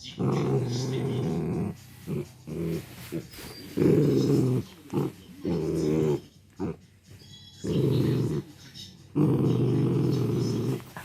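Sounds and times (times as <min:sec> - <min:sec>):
dog growling: 0:00.0 - 0:06.9, 0:07.6 - 0:11.0.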